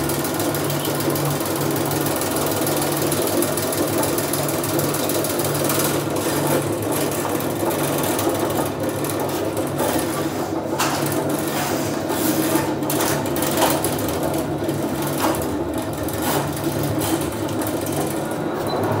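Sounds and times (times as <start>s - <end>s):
drain-cleaning machine running: 0.0s - 19.0s.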